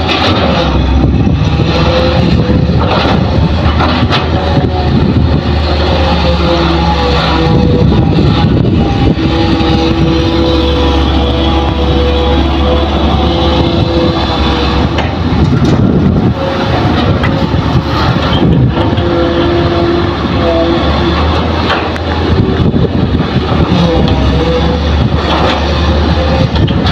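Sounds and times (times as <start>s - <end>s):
excavator diesel engine: 0.0s - 26.9s
steady mechanical whine: 0.0s - 26.9s.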